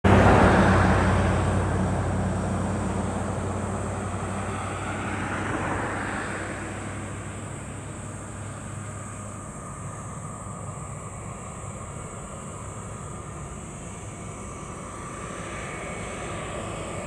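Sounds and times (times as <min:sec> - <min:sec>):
rushing vehicle noise: 0:00.0 - 0:17.0.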